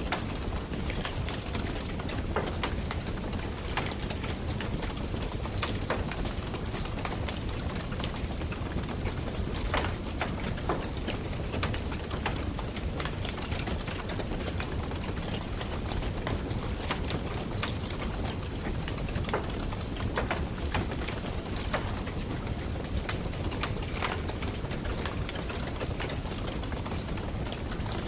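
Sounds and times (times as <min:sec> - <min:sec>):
burning wood crackling: 0:00.0 - 0:28.0
rush of campfire flames: 0:00.0 - 0:28.0.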